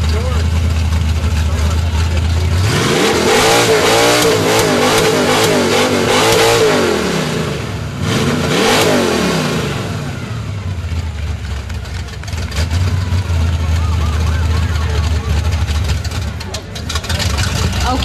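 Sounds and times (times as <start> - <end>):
car engine revving loudly: 0.0 - 18.0.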